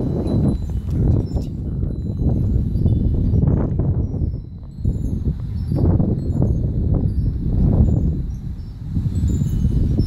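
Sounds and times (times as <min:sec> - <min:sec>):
wind chimes tinkling: 0:00.0 - 0:10.0.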